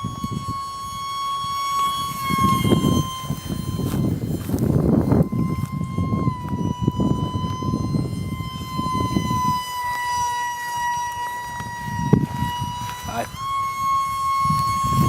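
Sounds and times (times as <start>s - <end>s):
low rumbling noise: 0.0s - 15.0s
model jet electric fan whine: 0.0s - 15.0s.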